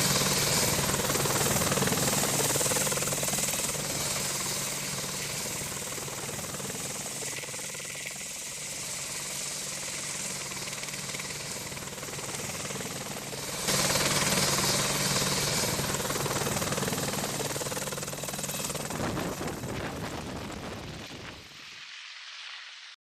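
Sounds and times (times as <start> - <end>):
helicopter turbine and rotors: 0.0 - 22.6.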